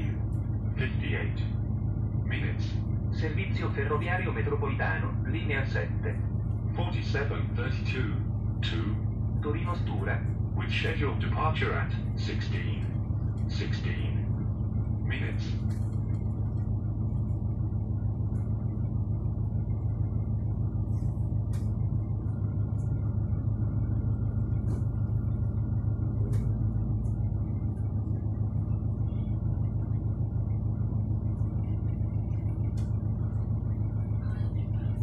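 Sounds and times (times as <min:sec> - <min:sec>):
train hum and rumble: 0:00.0 - 0:35.0.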